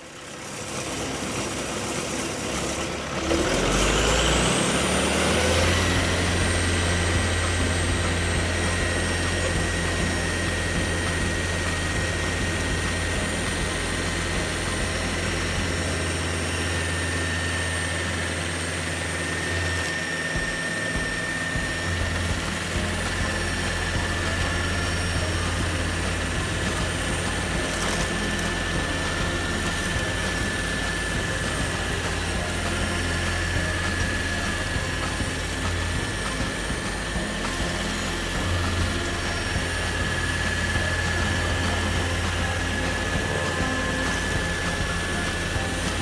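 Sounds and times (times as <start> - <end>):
stump grinder running: 0.0 - 46.0.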